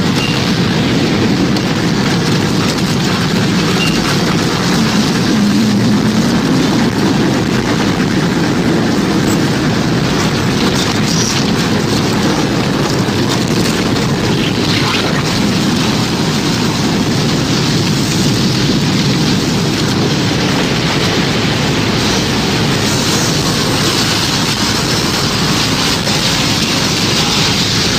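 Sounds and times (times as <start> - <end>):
rushing wind and rain: 0.0 - 27.9.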